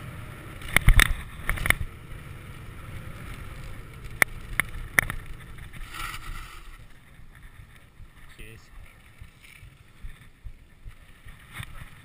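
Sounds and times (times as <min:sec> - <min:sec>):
bike clacking over bumps: 0:00.0 - 0:12.0
tyres rolling on dirt: 0:00.0 - 0:12.0
wind on microphone: 0:00.6 - 0:12.0.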